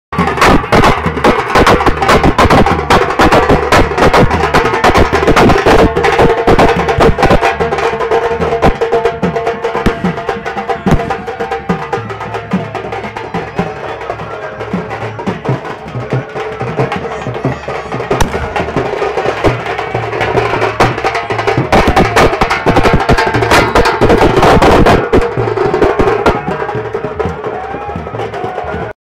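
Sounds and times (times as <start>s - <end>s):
rhythmic drumming: 0.1s - 29.0s.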